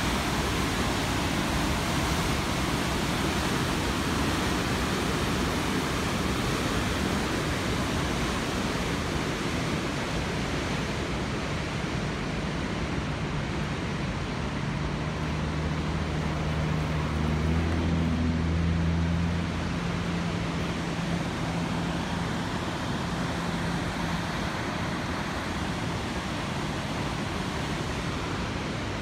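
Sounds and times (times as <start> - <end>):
floodwater roaring over dam: 0.0 - 29.0.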